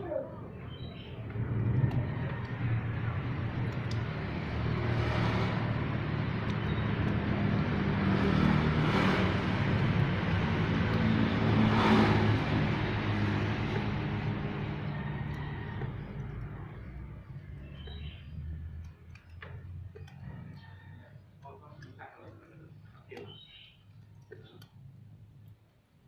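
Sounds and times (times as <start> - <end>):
traffic engine hum: 0.0 - 26.0
vehicles passing: 0.0 - 26.0.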